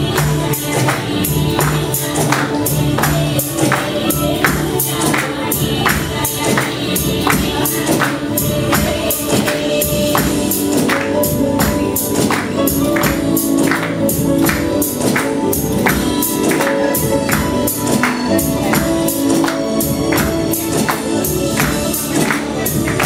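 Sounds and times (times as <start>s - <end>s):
group clapping along: 0.0s - 23.0s
singing into microphones with music: 0.0s - 23.0s.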